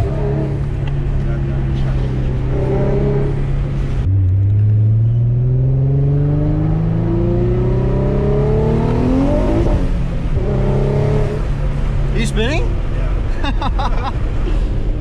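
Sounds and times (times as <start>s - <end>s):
car engine accelerating: 0.0s - 13.4s.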